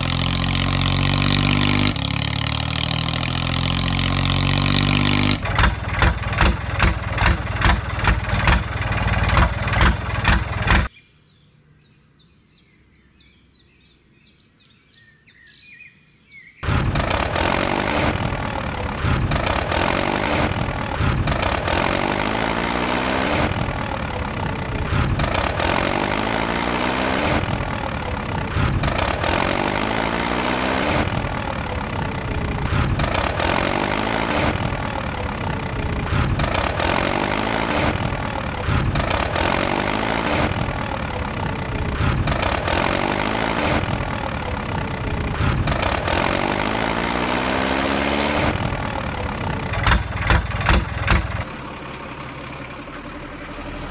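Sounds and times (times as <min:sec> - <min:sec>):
loud engine bursts: 0:00.0 - 0:10.9, 0:16.6 - 0:53.9
truck engine idling and revving: 0:00.0 - 0:10.9, 0:16.6 - 0:53.9.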